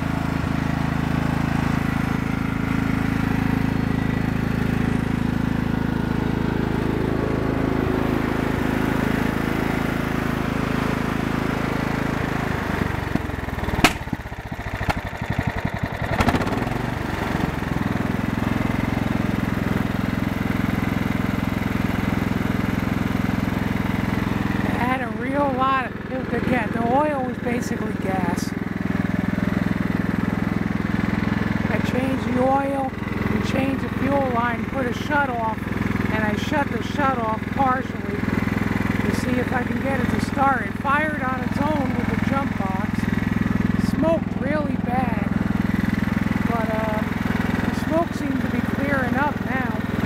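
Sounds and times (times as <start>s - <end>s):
lawn tractor engine running: 0.0s - 50.0s.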